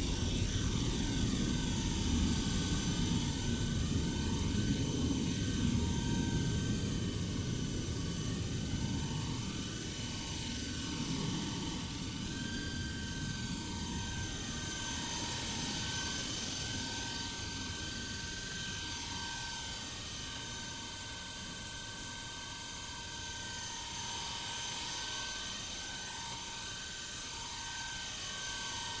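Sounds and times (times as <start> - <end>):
rc helicopter motor whine: 0.0 - 29.0.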